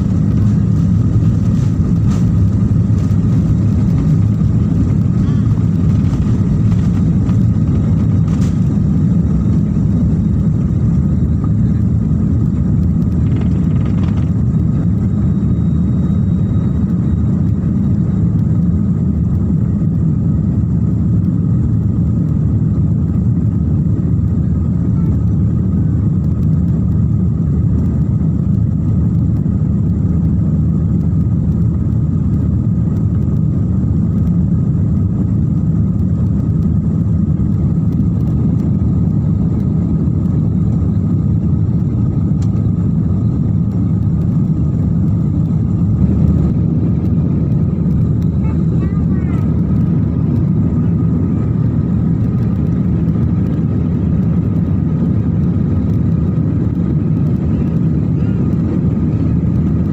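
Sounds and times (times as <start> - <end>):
faint high whine: 0.0 - 59.9
jet engine cabin rumble: 0.0 - 59.9.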